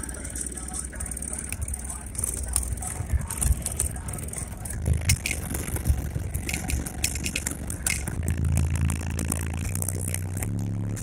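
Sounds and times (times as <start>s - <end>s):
car body rattling: 0.0s - 11.0s
deep pulsing bass from car: 0.0s - 11.0s.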